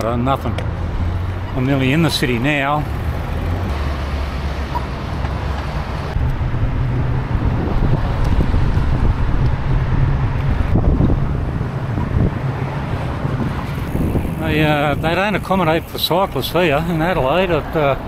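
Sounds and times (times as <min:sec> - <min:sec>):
road traffic noise: 0:00.0 - 0:18.0
wind rumbling on microphone: 0:00.7 - 0:18.0.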